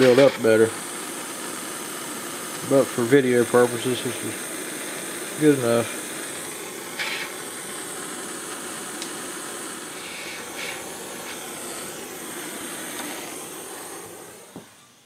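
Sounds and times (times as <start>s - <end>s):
torch flame hissing: 0.0s - 15.0s.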